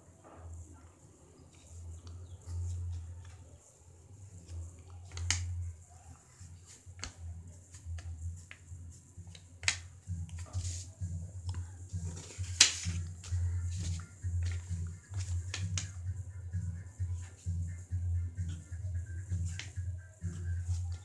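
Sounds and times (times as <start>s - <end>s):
low uneven hum: 0.0s - 21.0s.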